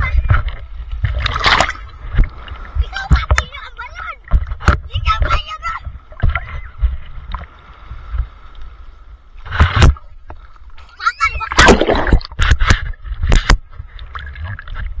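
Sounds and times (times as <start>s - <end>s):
seawater splashing: 0.0s - 15.0s
water buffeting microphone: 0.0s - 15.0s.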